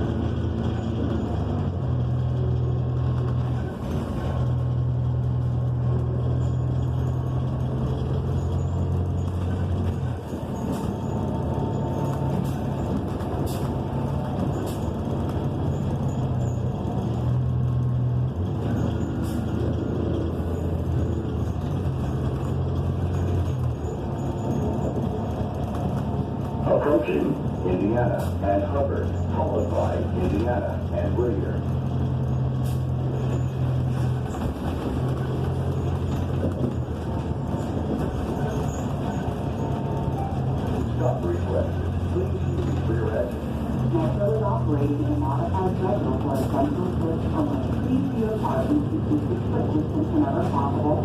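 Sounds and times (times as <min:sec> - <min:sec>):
bus engine drone: 0:00.0 - 0:51.0
road noise: 0:00.0 - 0:51.0.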